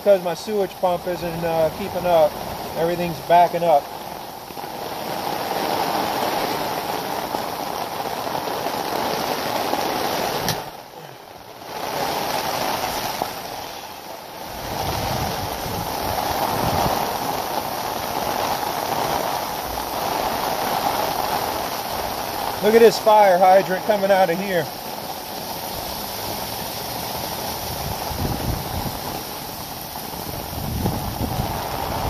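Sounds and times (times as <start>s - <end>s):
heavy rain hissing: 0.0s - 32.0s.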